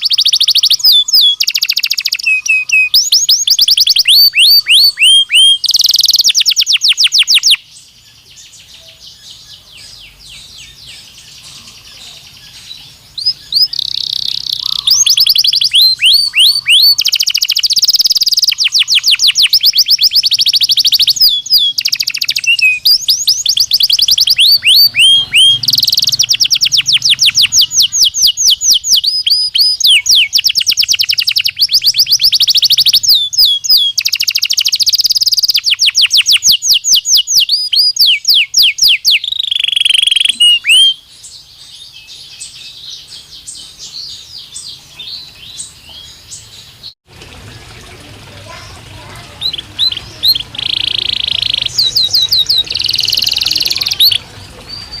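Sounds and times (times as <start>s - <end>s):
canary singing fast trills: 0.0s - 47.0s, 48.5s - 55.0s.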